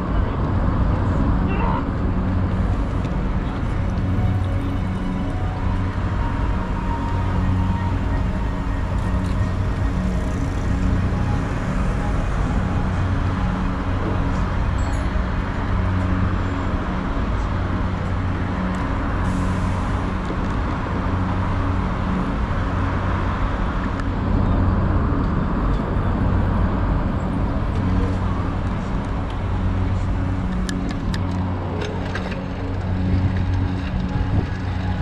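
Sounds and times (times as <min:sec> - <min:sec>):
cars and buses passing: 0:00.0 - 0:35.0
low engine hum: 0:00.0 - 0:35.0.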